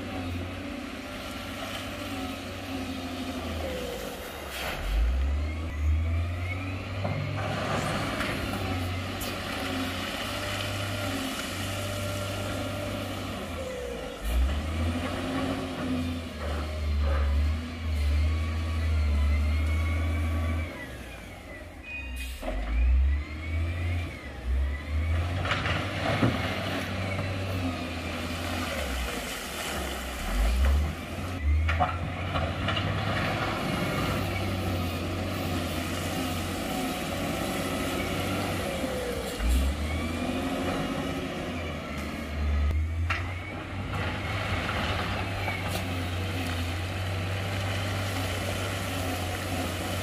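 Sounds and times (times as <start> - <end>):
diesel engine revving: 0.0 - 50.0.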